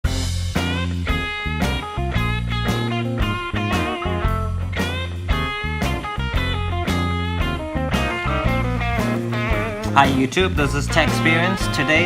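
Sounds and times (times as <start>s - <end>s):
steady bass line: 0.0s - 12.0s
plucked electric guitar: 0.1s - 12.0s.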